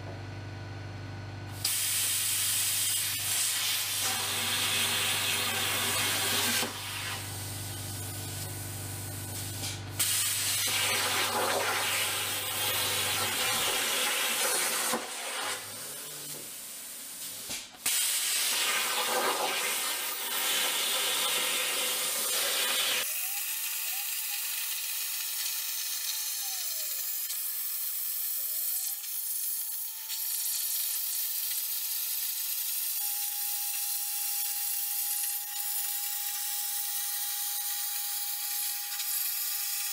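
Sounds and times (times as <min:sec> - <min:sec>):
plasma cutter hissing: 0:01.6 - 0:39.9.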